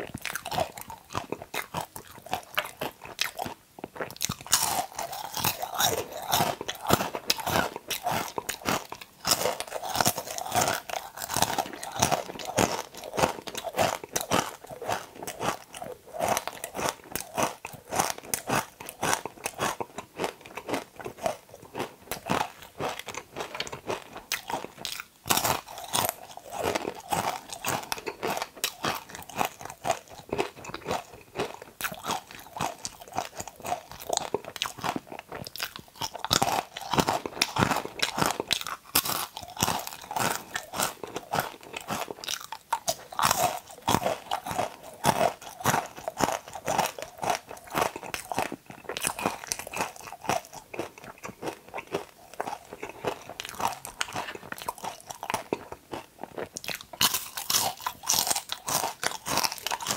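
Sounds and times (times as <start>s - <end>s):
crunching and chewing: 0.0s - 59.9s.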